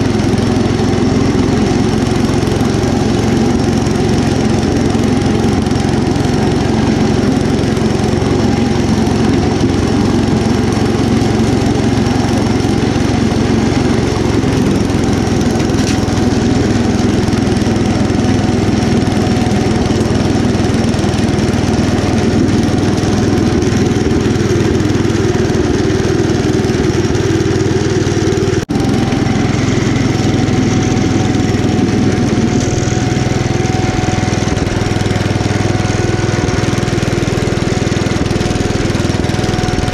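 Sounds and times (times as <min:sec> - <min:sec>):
single-cylinder engine running under load: 0:00.0 - 0:39.9.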